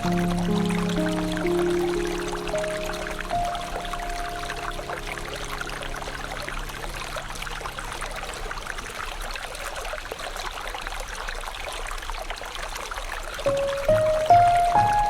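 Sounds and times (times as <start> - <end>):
shallow river flowing: 0.0 - 15.0.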